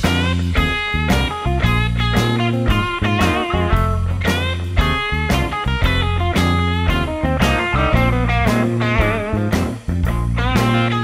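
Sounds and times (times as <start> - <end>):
blues-rock electric guitar: 0.0 - 11.0
steady bass line: 0.0 - 11.0.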